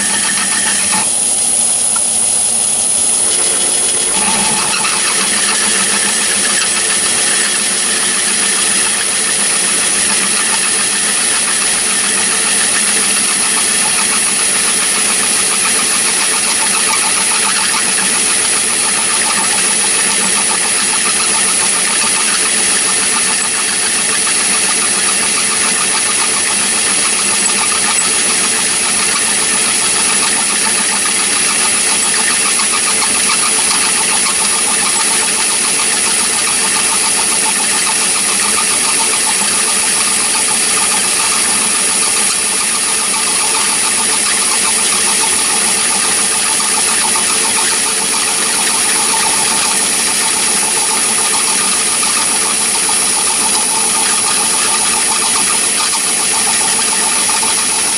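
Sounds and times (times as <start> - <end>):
high-pitched whine: 0.0 - 57.9
lathe running: 0.0 - 57.9.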